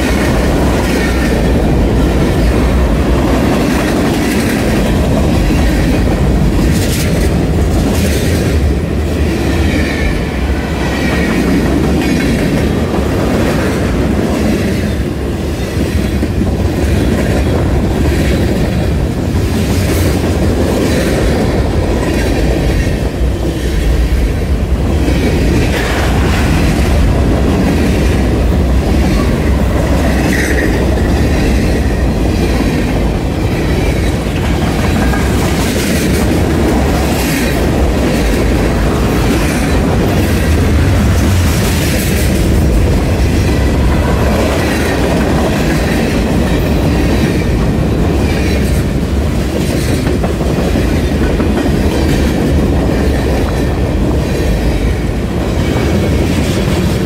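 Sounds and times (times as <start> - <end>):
freight cars rumbling on rails: 0.0 - 57.0
wheels clickety-clack: 0.0 - 57.0.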